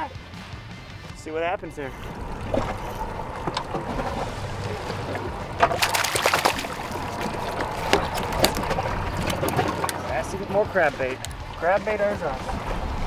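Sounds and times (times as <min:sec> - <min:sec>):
low steady hum: 0:01.2 - 0:13.0
water splashing: 0:01.2 - 0:13.0.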